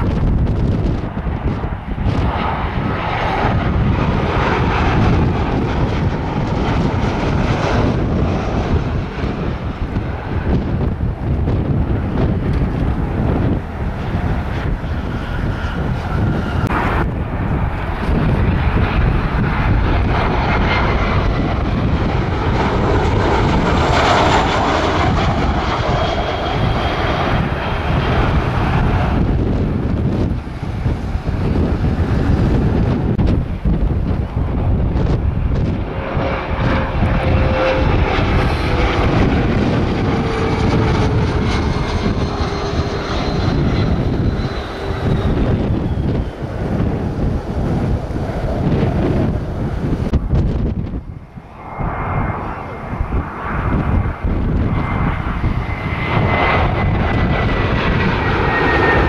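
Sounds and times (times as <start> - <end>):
jet airliner passing low: 0.0 - 59.0
faint high jet whine: 2.1 - 59.0.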